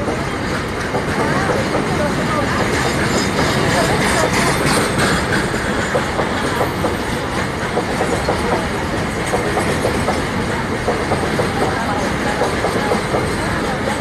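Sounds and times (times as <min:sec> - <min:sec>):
wheels clacking over rail joints: 0:00.0 - 0:14.0.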